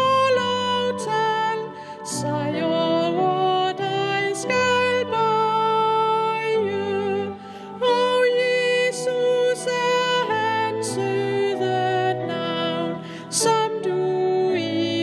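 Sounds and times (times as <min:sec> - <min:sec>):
pipe organ chords: 0:00.0 - 0:15.0
woman singing a hymn: 0:00.0 - 0:15.0.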